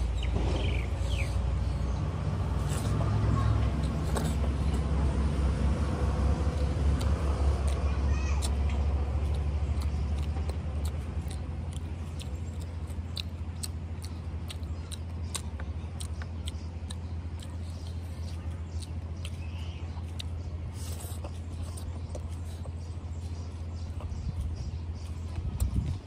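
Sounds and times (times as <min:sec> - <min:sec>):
steady low hum: 0:00.0 - 0:26.0
wet chewing mouth clicks: 0:02.5 - 0:26.0.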